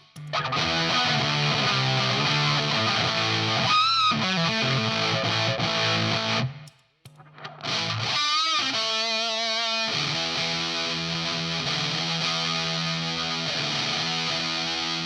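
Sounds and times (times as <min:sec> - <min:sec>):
fuzzed electric guitar chords: 0:00.0 - 0:15.0.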